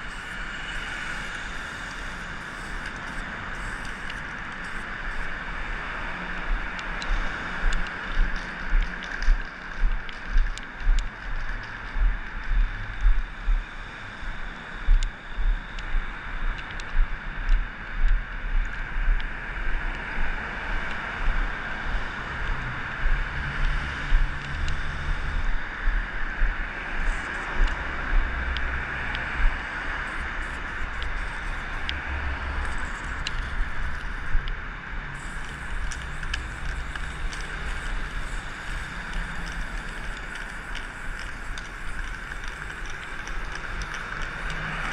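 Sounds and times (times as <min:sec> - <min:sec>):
city traffic hum: 0:00.0 - 0:44.9
footsteps on stone sidewalk: 0:00.0 - 0:44.9.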